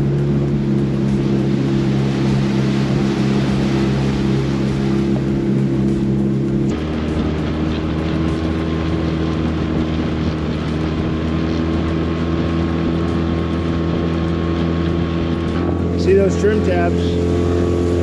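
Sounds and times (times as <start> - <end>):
outboard motor droning: 0.0 - 18.0
wind noise on microphone: 0.0 - 18.0.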